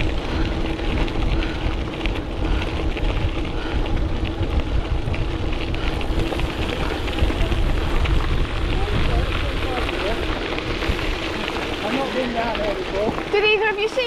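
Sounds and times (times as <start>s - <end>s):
tyres crunching on gravel: 0.0s - 14.0s
wind buffeting microphone: 0.0s - 14.0s.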